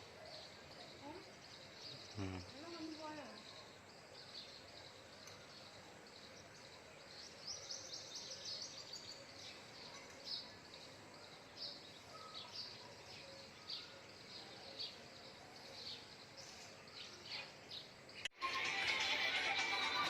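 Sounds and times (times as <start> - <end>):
small birds chirping: 0.0 - 18.3.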